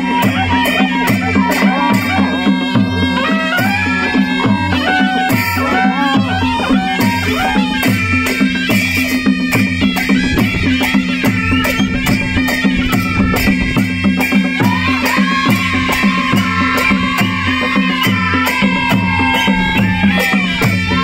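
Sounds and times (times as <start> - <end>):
barrel drums: 0.0 - 21.0
hand cymbals clashing: 0.0 - 21.0
reedy wind melody: 0.0 - 21.0.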